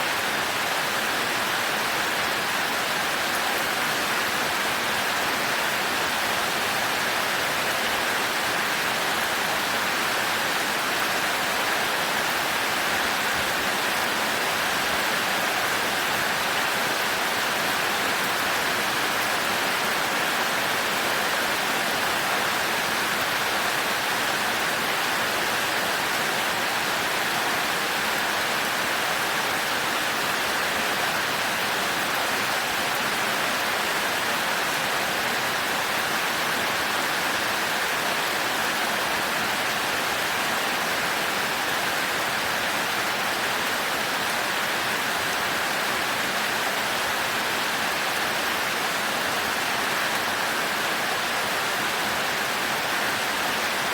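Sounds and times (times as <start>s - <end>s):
heavy rain on a thatched roof: 0.0s - 53.9s.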